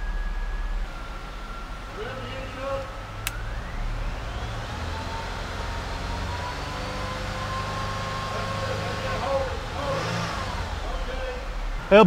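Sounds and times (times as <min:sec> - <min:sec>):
alternator whine: 0:00.0 - 0:09.8
car engine running drone: 0:00.0 - 0:12.0.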